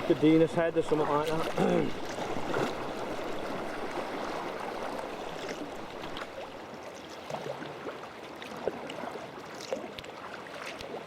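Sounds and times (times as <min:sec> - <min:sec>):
water lapping against kayak hull: 0:00.0 - 0:11.0
small sharp splashes: 0:01.0 - 0:11.0.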